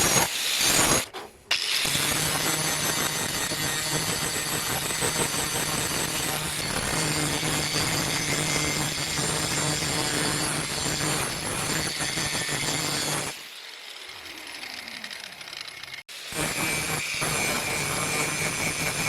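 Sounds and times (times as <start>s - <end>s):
power tool motor with abrasive hiss: 0.0s - 15.4s.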